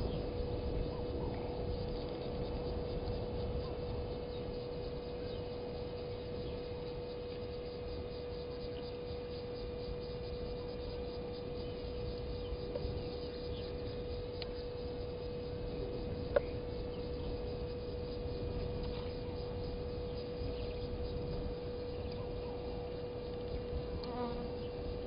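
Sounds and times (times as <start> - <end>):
low background rumble: 0.0 - 25.0
steady even hum: 0.0 - 25.0.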